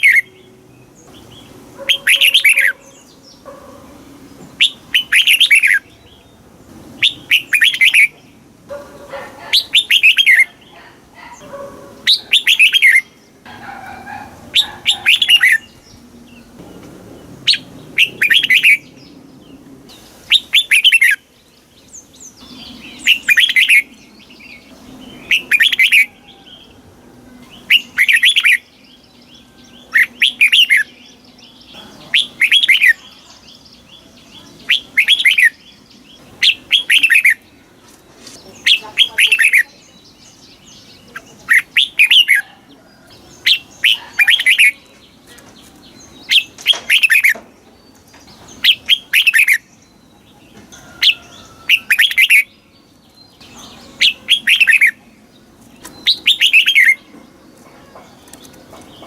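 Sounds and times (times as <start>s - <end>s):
bird singing chirpy phrases: 0.0s - 59.0s.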